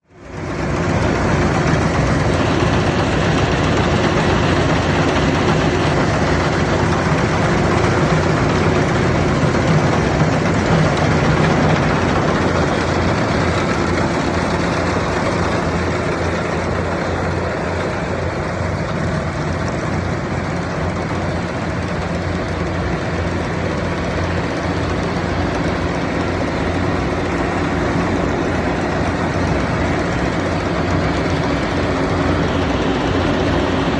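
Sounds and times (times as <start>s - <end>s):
harvester engine droning: 0.0s - 33.9s.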